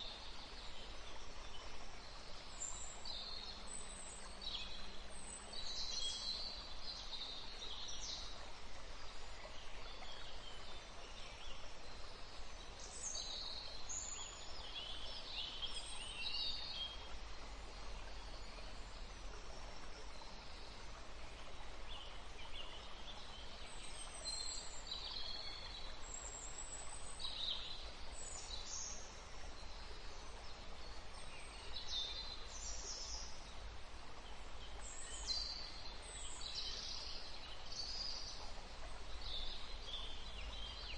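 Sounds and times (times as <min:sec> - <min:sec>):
forest green noise hiss: 0:00.0 - 0:40.9.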